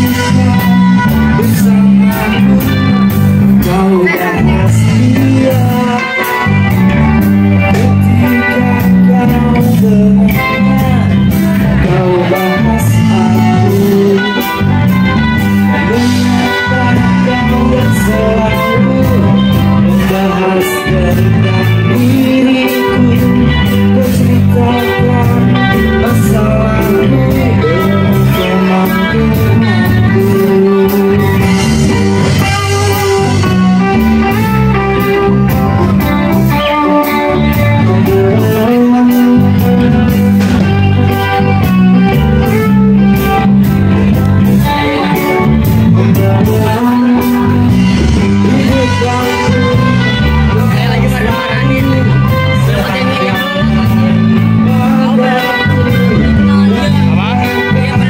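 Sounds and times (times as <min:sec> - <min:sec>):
live band playing amplified music: 0:00.0 - 0:58.0.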